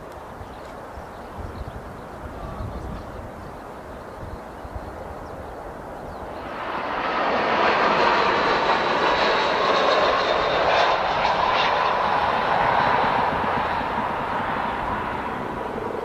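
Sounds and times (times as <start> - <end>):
jet airliner engines passing: 1.9 - 16.0.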